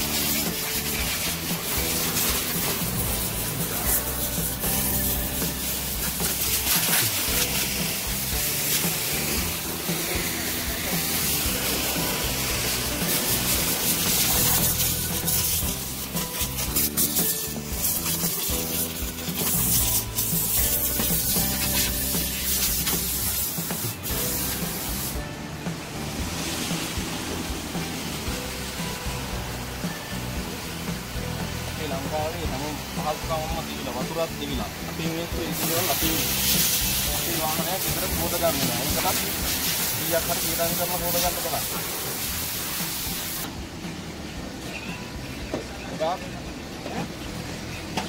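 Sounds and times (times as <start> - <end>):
vacuum hose hissing and rubbing: 0.0 - 25.4, 26.2 - 43.5
background music: 0.0 - 48.0.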